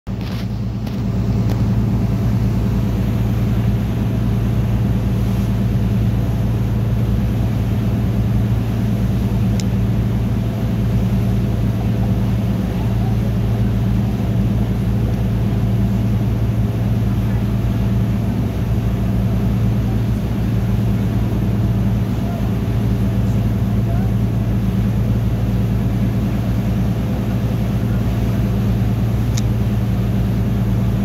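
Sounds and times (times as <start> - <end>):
boat engine drone: 0.1 - 31.0.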